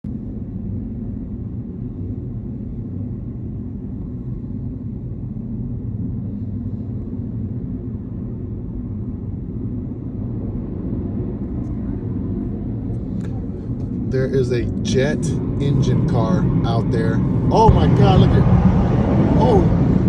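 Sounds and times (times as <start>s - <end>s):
jet engine deep rumble: 0.0s - 20.0s.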